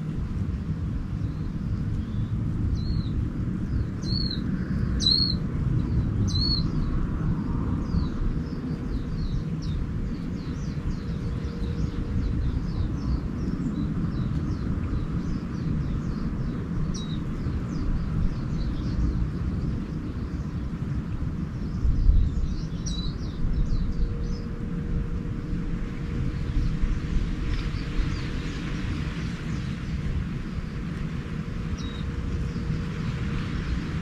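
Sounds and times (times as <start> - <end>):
steady low rumble: 0.0 - 34.0
rapid thin bird twittering: 1.2 - 7.0, 7.8 - 20.8, 21.4 - 24.8, 26.2 - 30.8, 31.6 - 34.0.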